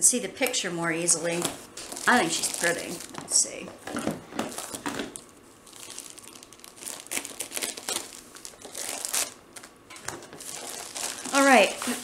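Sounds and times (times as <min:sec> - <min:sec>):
plastic sleeve crinkling: 0:01.3 - 0:12.0.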